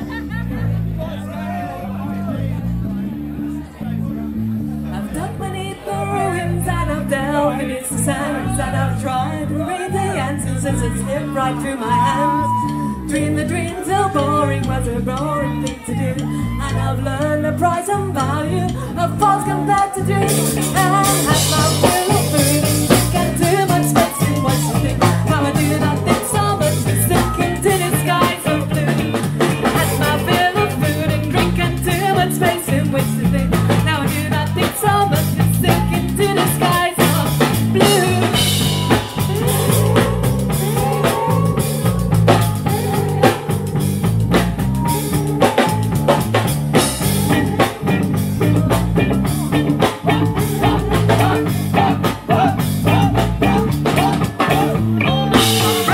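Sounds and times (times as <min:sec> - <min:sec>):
live ska punk band playing: 0:05.9 - 0:55.9.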